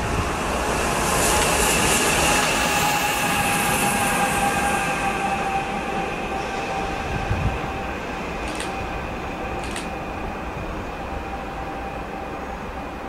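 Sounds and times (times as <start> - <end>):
electric locomotive passing: 0.0 - 13.0.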